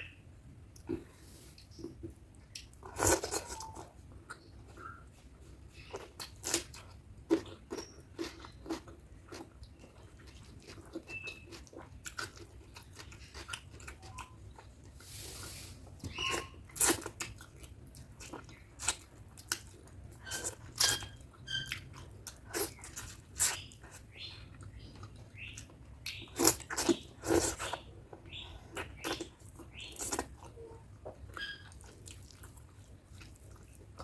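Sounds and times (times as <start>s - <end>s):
wet chewing and smacking: 0.8s - 15.0s, 16.0s - 34.0s.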